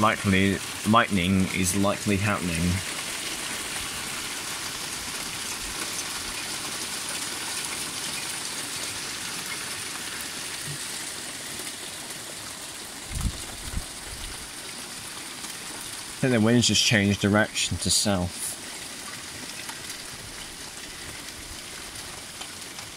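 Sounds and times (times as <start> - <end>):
hail and rain falling: 0.0 - 22.9.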